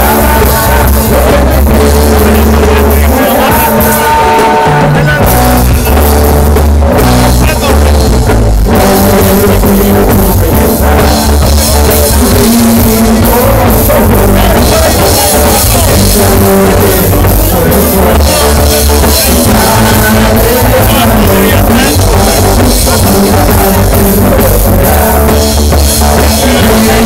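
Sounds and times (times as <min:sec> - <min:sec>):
live rock band playing: 0:00.0 - 0:27.0
man singing: 0:00.0 - 0:27.0.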